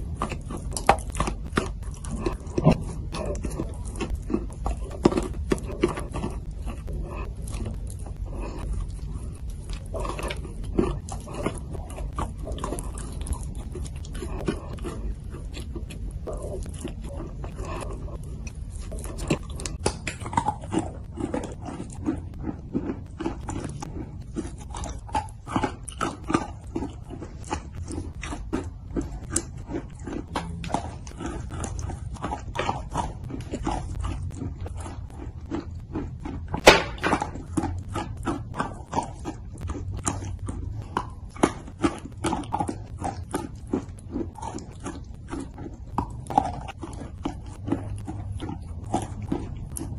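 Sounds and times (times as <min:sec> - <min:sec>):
wet chewing and crunching: 0:00.0 - 0:49.9.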